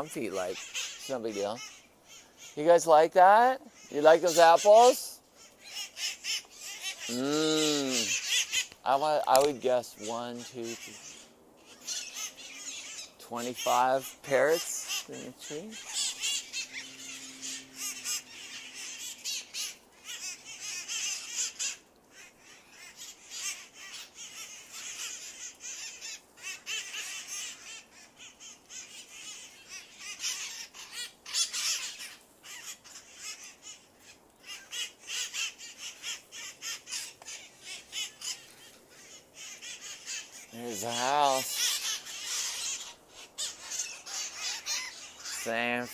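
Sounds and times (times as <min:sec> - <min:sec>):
parrots squawking and chattering: 0:00.0 - 0:45.9.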